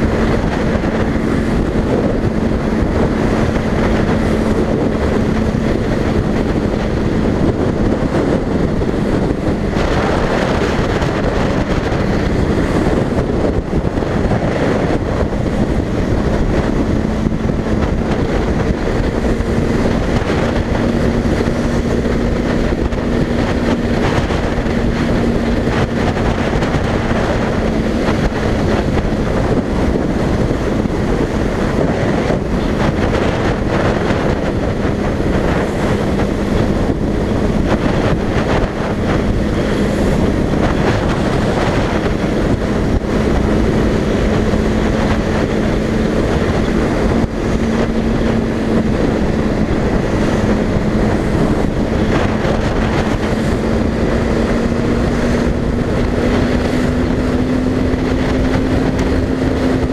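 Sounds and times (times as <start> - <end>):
motorcycle engine cruising: 0.0 - 59.9
wind rush buffeting microphone: 0.0 - 59.9.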